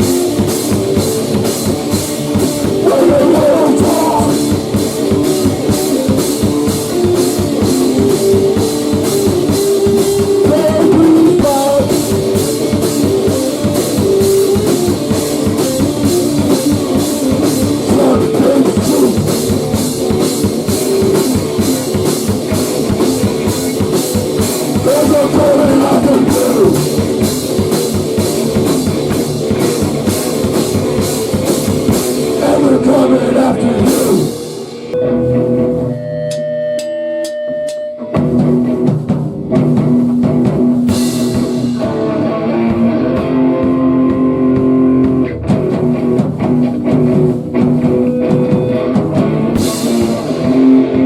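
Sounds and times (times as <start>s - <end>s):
drum kit beat on cymbals: 0.0s - 35.0s, 36.3s - 51.0s
electric guitar: 0.0s - 51.0s.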